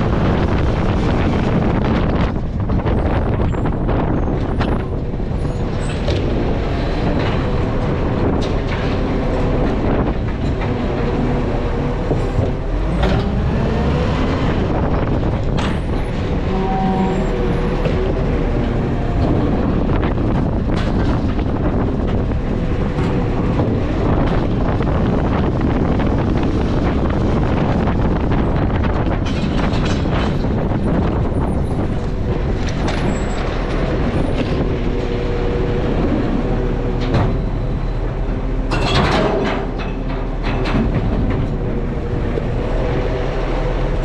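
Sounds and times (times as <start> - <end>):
heavy vehicle running: 0.0 - 44.0.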